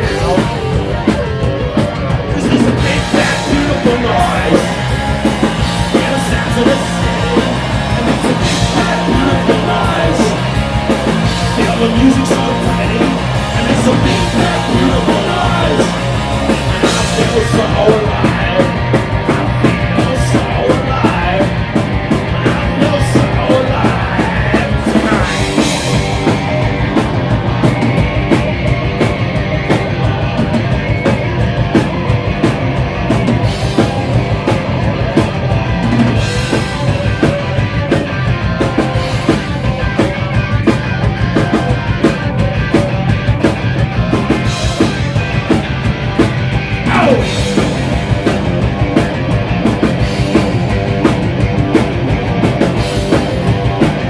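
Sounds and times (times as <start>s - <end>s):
live punk rock band playing: 0.0s - 54.0s.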